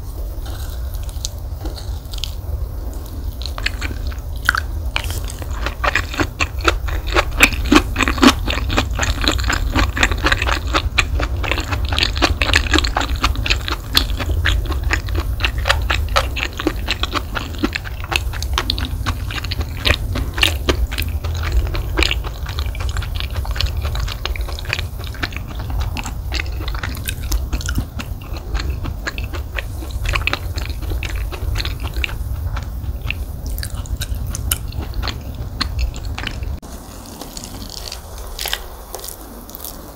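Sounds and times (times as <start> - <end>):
chewing fried rice: 0.0 - 39.9.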